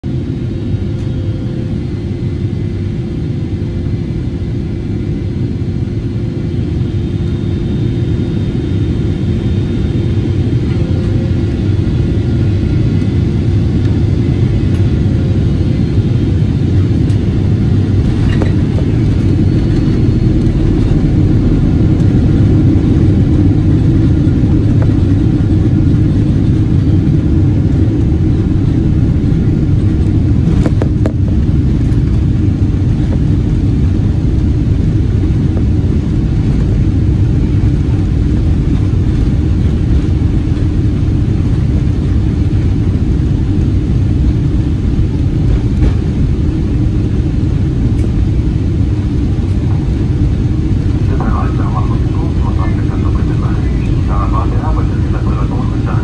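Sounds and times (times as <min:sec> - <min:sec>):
jet engine and airflow rumble: 0:00.0 - 0:56.0
faint steady whine: 0:00.1 - 0:56.0.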